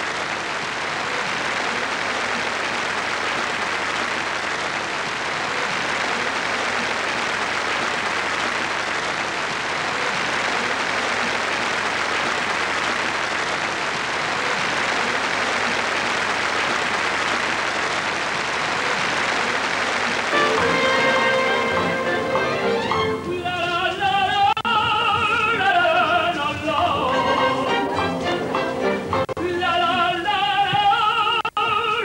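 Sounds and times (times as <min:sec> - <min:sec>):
audience applauding: 0:00.0 - 0:24.0, 0:24.9 - 0:30.2.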